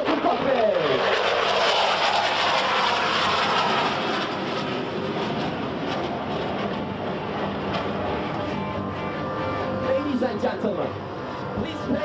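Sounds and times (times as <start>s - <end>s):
jet flying low: 0.0s - 12.0s.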